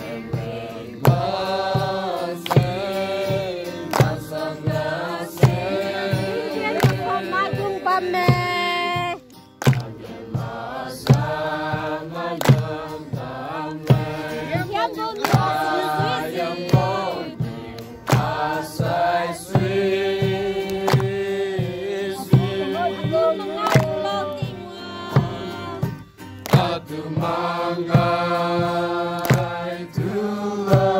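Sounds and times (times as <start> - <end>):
acoustic guitar: 0.0 - 30.9
group singing a gospel song: 0.0 - 30.9
hand claps: 0.0 - 30.9.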